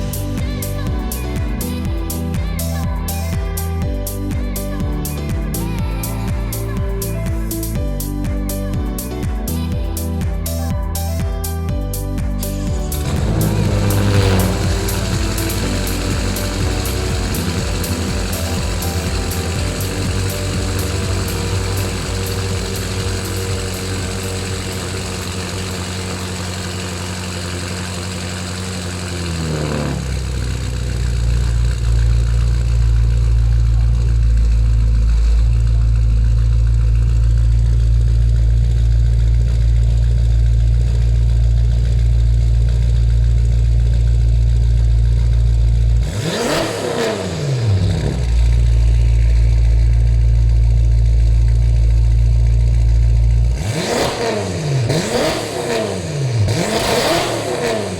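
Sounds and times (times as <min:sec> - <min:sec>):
car engine deep exhaust drone: 0:00.0 - 0:10.2, 0:11.8 - 0:57.9.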